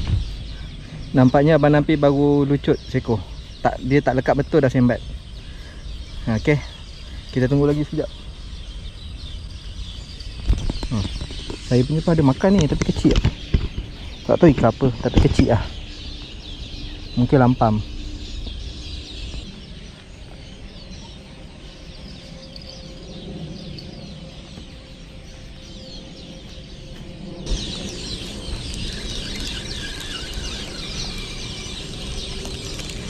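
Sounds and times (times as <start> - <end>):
wild birds chirping: 0.0 - 33.0.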